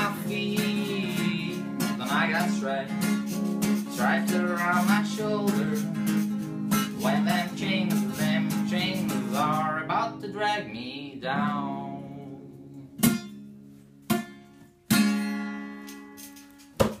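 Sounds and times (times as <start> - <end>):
acoustic guitar strums: 0.0 - 17.0.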